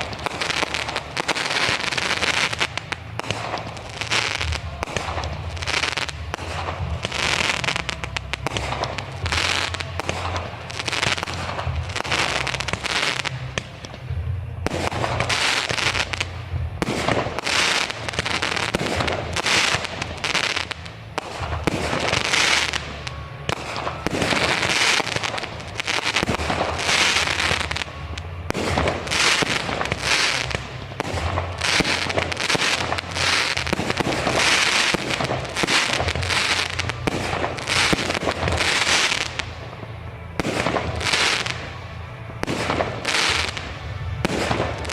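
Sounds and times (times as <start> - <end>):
fireworks bursting with bangs: 0.0 - 44.9
fireworks crackling: 0.0 - 44.9.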